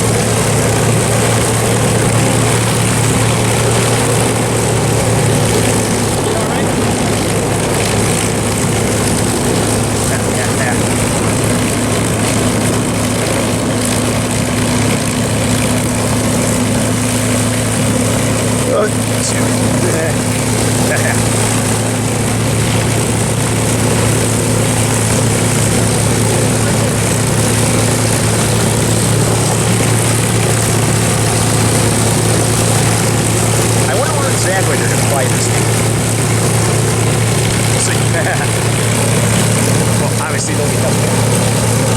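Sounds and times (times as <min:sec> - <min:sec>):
piston aircraft engine droning: 0:00.0 - 0:41.9.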